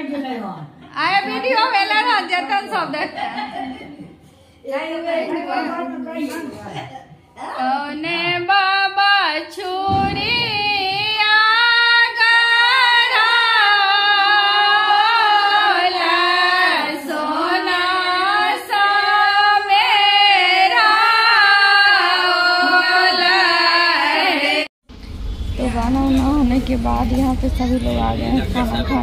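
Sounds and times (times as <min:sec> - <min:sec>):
women singing together: 0:00.9 - 0:24.7.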